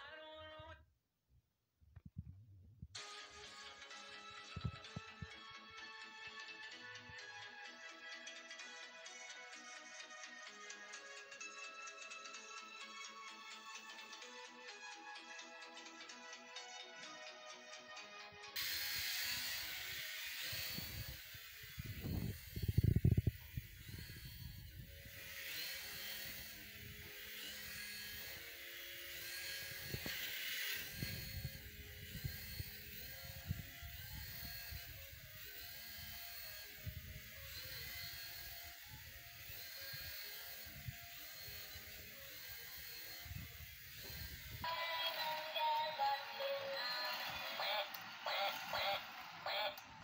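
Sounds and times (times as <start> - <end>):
toy helicopter rotors whirring: 3.0 - 50.0.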